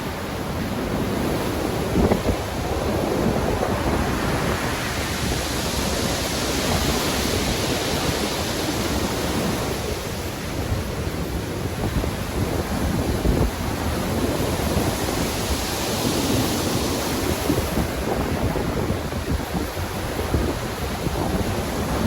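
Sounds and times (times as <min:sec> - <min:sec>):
rough sea surf breaking: 0:00.0 - 0:22.0
wind: 0:00.0 - 0:22.0.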